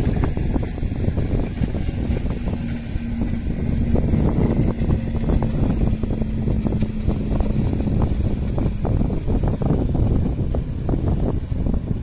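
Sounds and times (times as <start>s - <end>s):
steady low hum: 0.0s - 12.0s
wind buffeting microphone: 0.0s - 12.0s.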